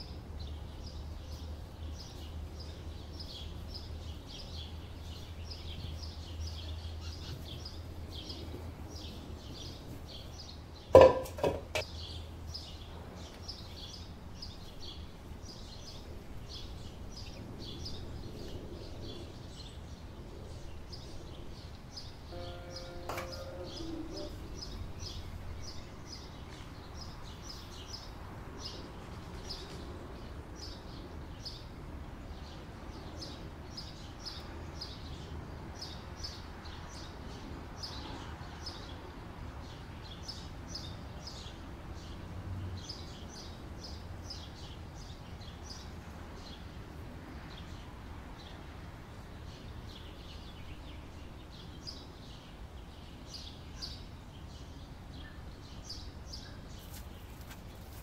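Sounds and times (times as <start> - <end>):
small birds chirping: 0.0 - 31.7, 32.3 - 58.0.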